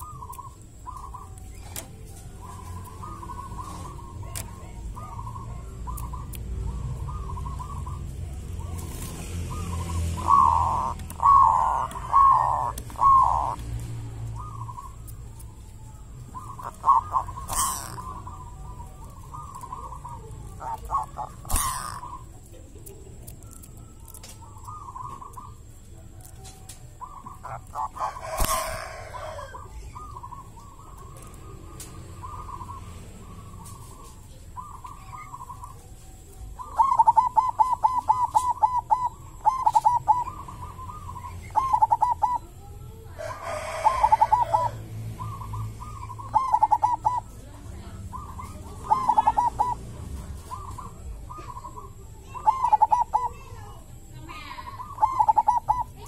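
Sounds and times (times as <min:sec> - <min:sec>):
dove cooing: 0:00.0 - 0:15.1, 0:15.8 - 0:56.0.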